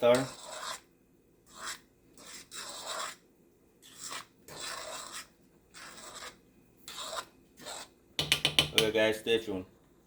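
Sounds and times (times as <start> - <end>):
spoon scraping rice in a pot: 0.0 - 0.9, 1.5 - 8.8.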